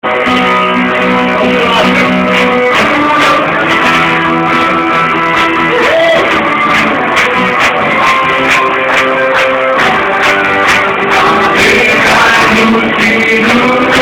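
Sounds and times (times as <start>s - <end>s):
strummed guitar music: 0.0s - 14.0s.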